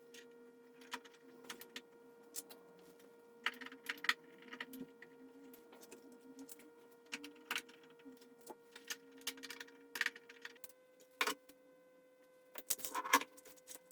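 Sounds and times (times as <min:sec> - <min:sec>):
faint steady whine: 0:00.0 - 0:13.9.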